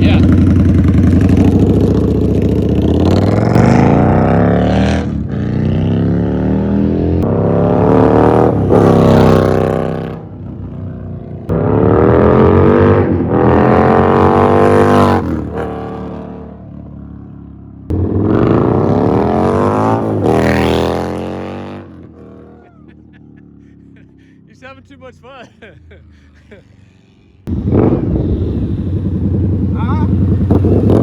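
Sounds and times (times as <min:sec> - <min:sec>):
motorcycle engine accelerating: 0:00.0 - 0:24.9, 0:25.6 - 0:31.0.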